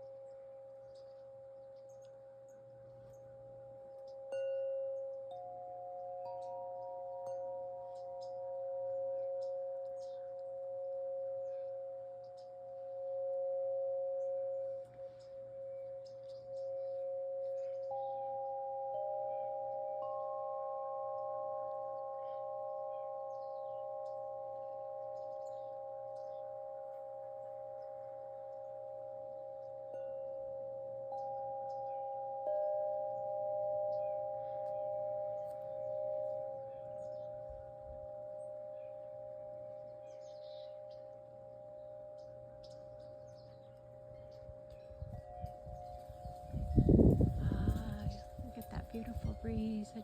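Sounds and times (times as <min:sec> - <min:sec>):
meditation music with bell tones: 0:00.0 - 0:50.0.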